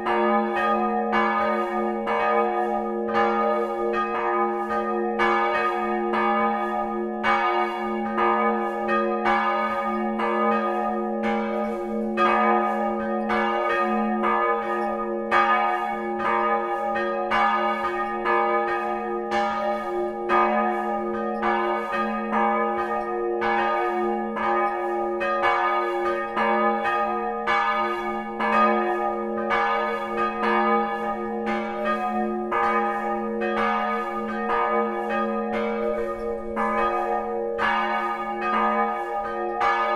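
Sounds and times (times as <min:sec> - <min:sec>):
church bell tolling: 0:00.0 - 0:39.9.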